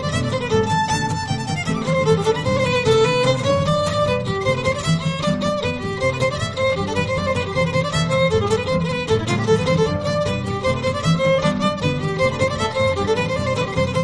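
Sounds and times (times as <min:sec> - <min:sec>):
lively violin tune: 0:00.0 - 0:14.0.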